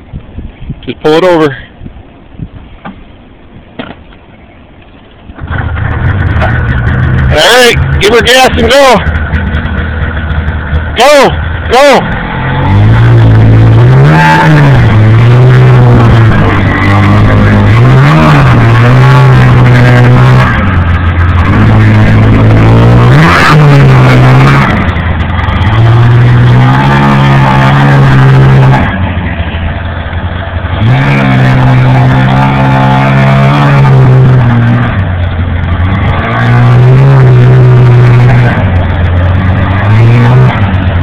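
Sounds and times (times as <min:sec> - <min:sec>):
snowmobile engine revving: 0:05.4 - 0:41.0.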